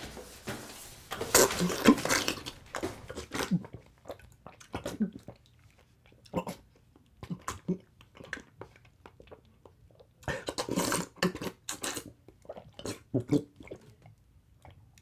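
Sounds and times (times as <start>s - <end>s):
wet chewing and lip-smacking: 1.3s - 15.0s.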